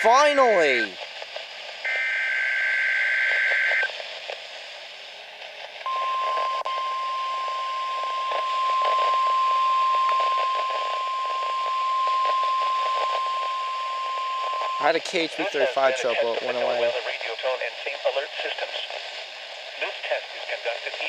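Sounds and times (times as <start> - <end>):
static hiss: 0.0 - 21.0.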